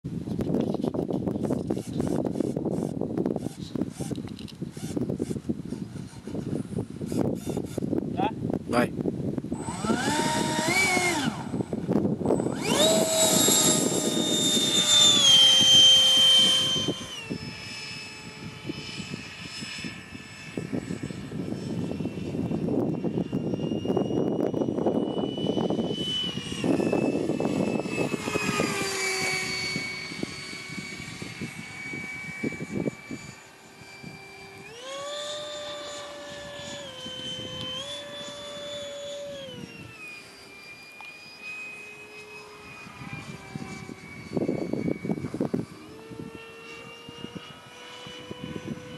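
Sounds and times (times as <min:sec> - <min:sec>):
model jet fan whine: 0:00.0 - 0:48.9.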